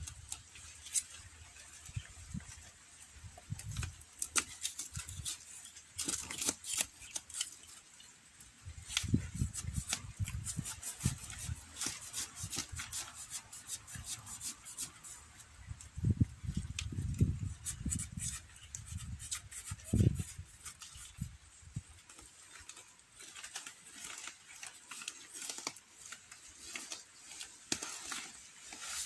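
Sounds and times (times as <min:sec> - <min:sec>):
dry plants crackling and rustling: 0:00.0 - 0:29.0.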